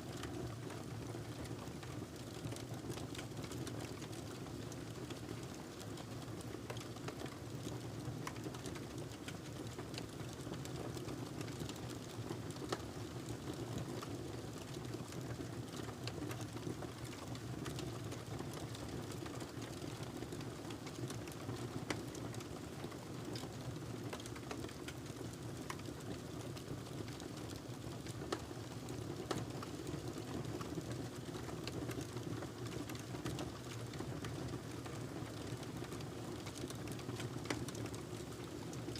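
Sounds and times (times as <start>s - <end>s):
wood fire crackling: 0.1s - 11.1s, 11.8s - 38.7s.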